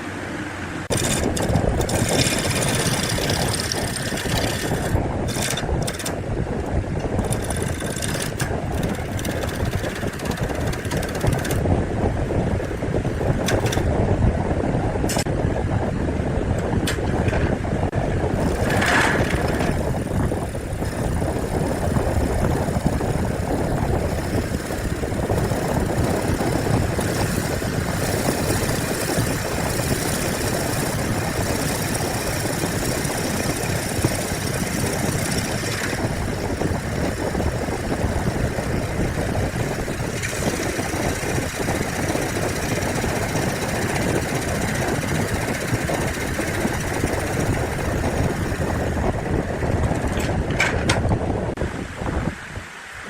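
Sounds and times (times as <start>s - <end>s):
woodworking power tool running: 0.8s - 13.8s, 18.3s - 50.2s.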